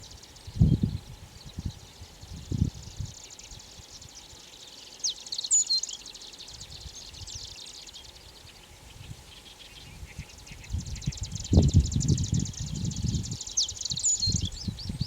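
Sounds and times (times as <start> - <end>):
bird singing: 0.0 - 15.0.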